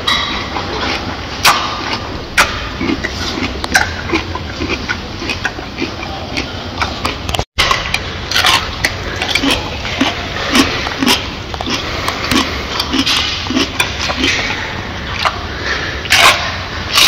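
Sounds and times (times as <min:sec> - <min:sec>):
gorilla chewing with wet smacks: 0:00.4 - 0:17.0.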